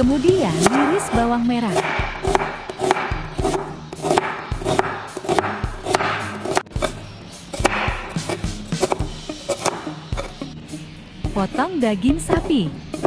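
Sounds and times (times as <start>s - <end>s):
background music: 0.0s - 13.0s
knife chopping on wooden board: 0.3s - 10.4s, 12.2s - 13.0s.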